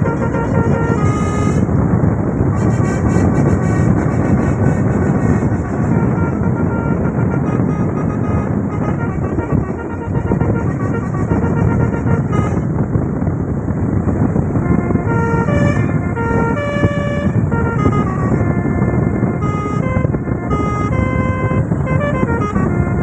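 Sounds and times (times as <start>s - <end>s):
musical bus horn playing melody: 0.0s - 13.2s, 14.0s - 23.0s
loud steady noise: 0.0s - 23.0s.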